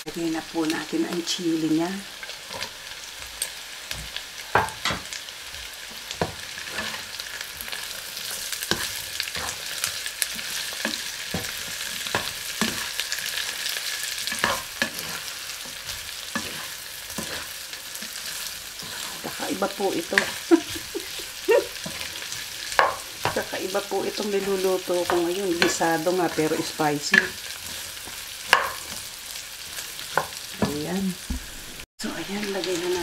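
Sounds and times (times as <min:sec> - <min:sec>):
food sizzling in a pan: 0:00.0 - 0:33.0
spatula scraping and knocking a pan: 0:02.2 - 0:21.2, 0:21.8 - 0:31.8.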